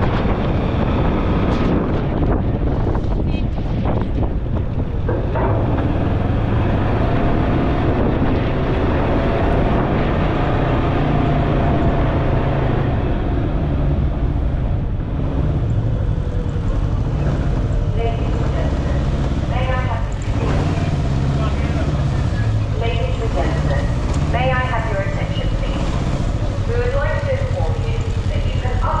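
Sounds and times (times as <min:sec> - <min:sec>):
engine drone: 0:00.0 - 0:29.0
wind buffeting microphone: 0:00.0 - 0:29.0.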